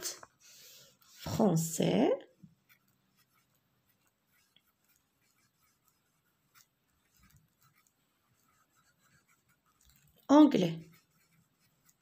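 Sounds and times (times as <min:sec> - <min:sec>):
pencil scratching on paper: 0:00.9 - 0:01.6, 0:02.3 - 0:12.0.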